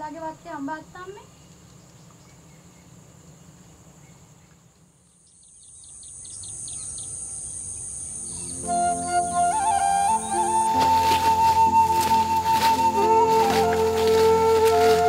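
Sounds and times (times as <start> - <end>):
insects droning: 0.0 - 15.0
bird chirping: 1.2 - 14.9.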